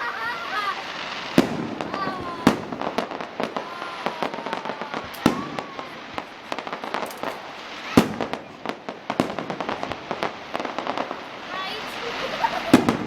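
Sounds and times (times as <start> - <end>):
falling firework whistles: 0.0 - 13.0
fireworks crackling and banging: 0.0 - 13.0.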